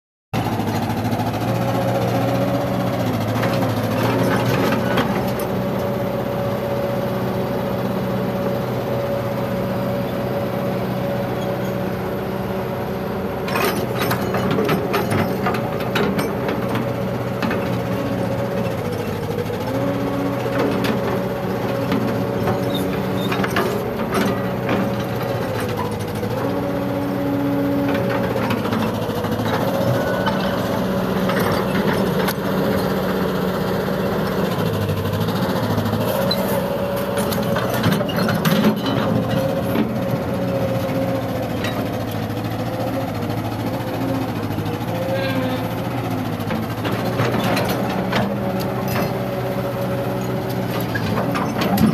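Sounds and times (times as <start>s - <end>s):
excavator diesel engine whining: 0.4s - 51.9s.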